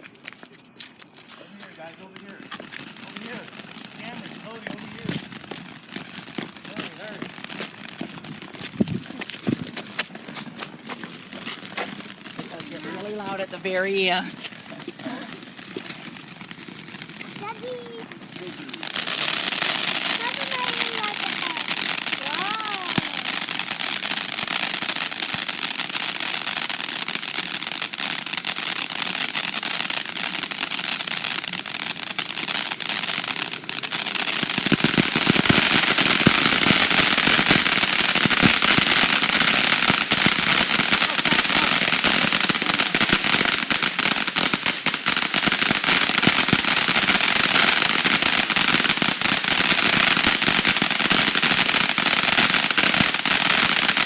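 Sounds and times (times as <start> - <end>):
firework hissing and crackling: 0.0 - 54.0.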